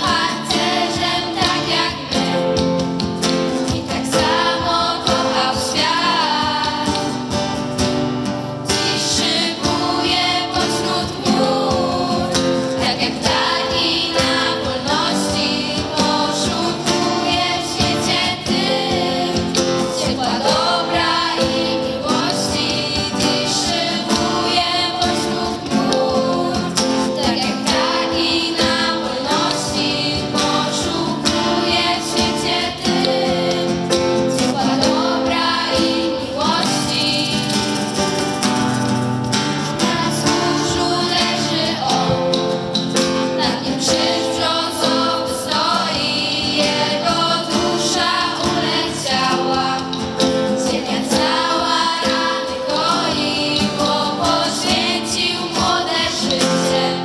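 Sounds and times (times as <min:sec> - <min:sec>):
girls singing together: 0:00.0 - 0:07.6, 0:08.5 - 0:39.0, 0:39.7 - 0:57.0
guitar: 0:00.0 - 0:57.0.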